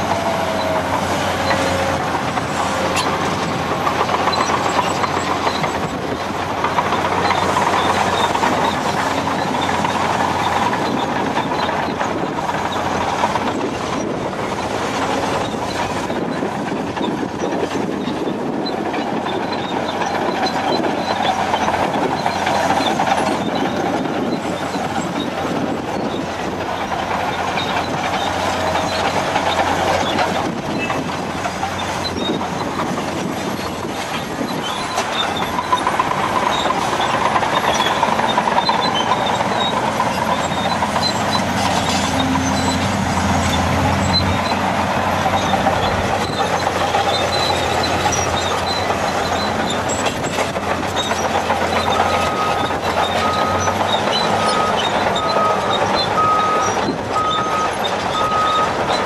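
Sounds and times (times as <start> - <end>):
excavator diesel engine: 0.0 - 59.0
metallic clatter of tracks: 0.0 - 59.0.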